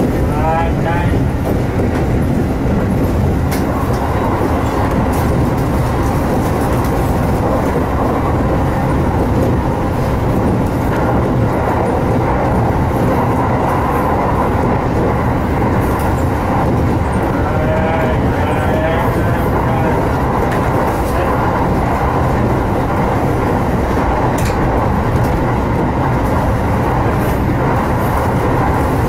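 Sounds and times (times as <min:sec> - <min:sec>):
train running noise from inside: 0:00.0 - 0:29.0.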